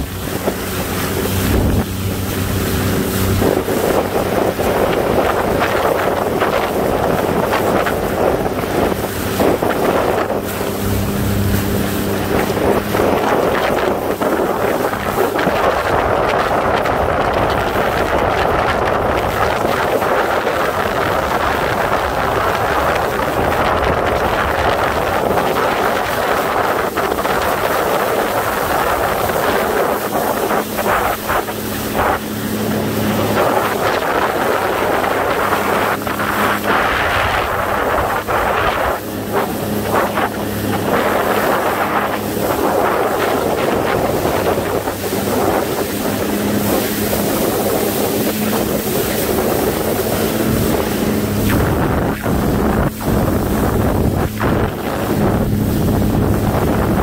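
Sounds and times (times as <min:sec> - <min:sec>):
jet ski engine running: 0:00.0 - 0:57.0
water rushing and splashing: 0:00.0 - 0:57.0
wind buffeting microphone: 0:00.0 - 0:57.0.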